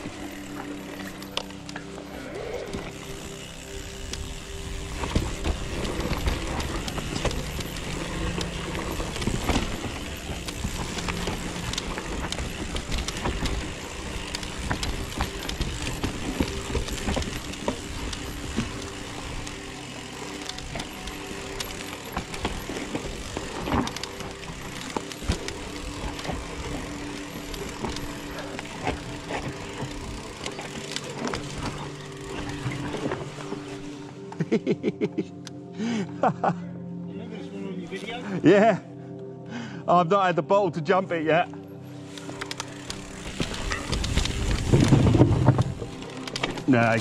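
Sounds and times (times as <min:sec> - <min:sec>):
bike chain and frame rattling: 0:00.0 - 0:34.7, 0:41.9 - 0:47.0
bike tyres rolling over dirt: 0:00.0 - 0:34.8, 0:41.1 - 0:47.0.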